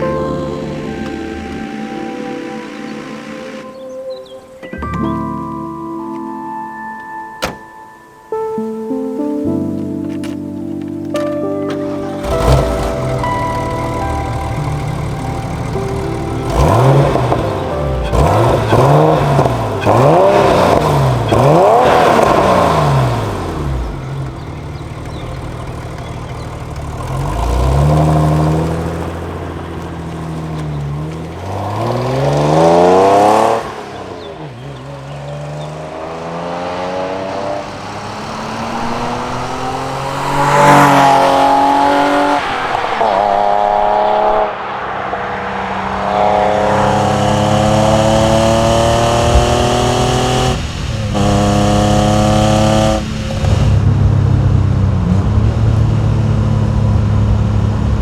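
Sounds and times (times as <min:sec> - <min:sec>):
car engine revving through gears: 0:11.1 - 0:58.0.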